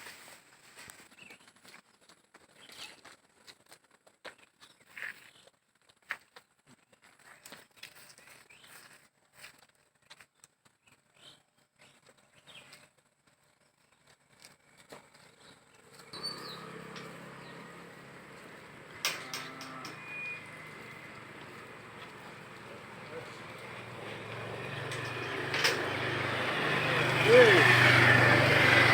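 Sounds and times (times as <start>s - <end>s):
rustles and clicks in grass: 0.0s - 26.2s.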